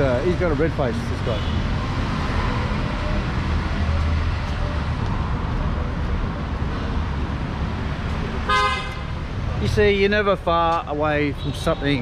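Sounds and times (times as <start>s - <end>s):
car and scooter engines passing: 0.0s - 10.3s.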